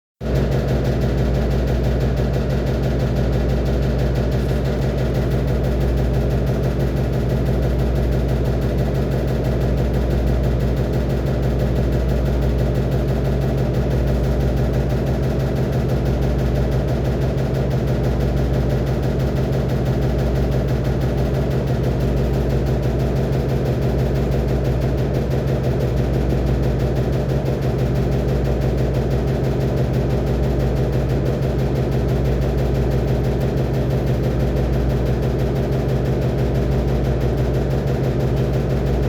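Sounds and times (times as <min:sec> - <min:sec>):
washing machine spinning hum: 0:00.2 - 0:39.0.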